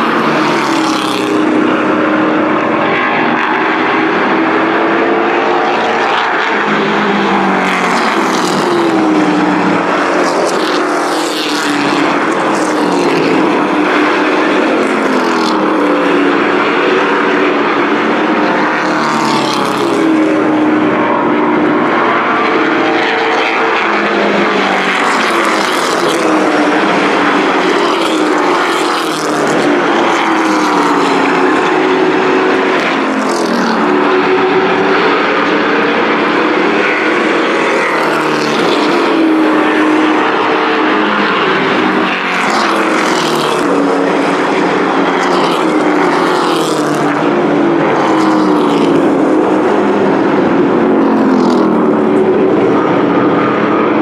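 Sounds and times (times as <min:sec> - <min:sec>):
race truck engines: 0:00.0 - 0:54.0.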